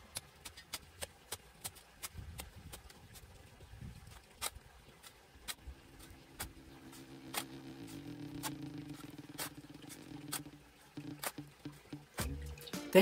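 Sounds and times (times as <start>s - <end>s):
shovel digging soil and stones: 0.0s - 3.4s, 4.0s - 13.0s.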